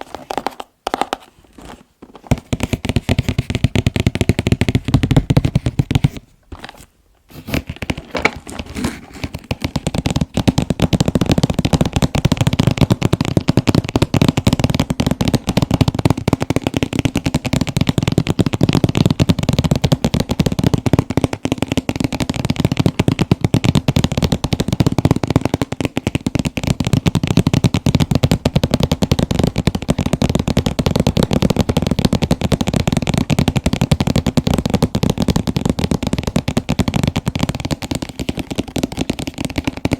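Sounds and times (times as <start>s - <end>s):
fingers tapping on a box: 2.2s - 6.2s, 9.2s - 39.9s.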